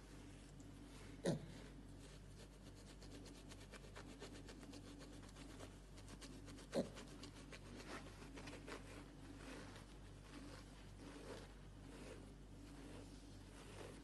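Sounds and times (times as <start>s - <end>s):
grooming tool scratching bristles: 2.0s - 14.0s.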